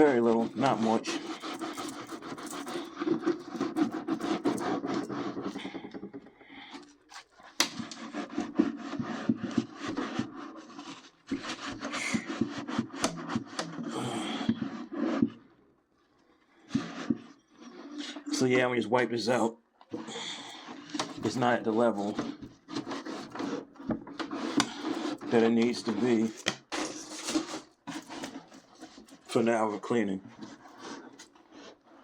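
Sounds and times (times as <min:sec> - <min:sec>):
rubbing on metal oven wall: 0:00.0 - 0:15.5, 0:16.6 - 0:18.7, 0:20.0 - 0:32.0.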